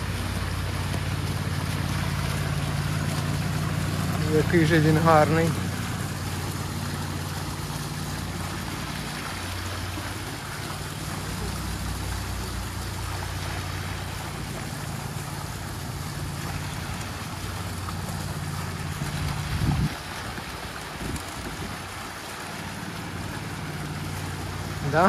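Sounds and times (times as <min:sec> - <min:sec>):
fountain water splashing: 0:00.0 - 0:25.0
low steady rumble: 0:00.0 - 0:25.0.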